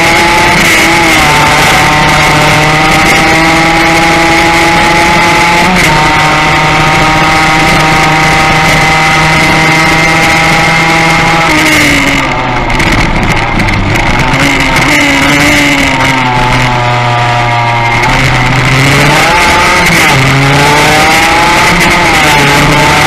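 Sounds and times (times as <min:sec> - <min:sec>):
racing motorcycle engine revving: 0:00.0 - 0:23.0
wind noise: 0:00.0 - 0:23.0.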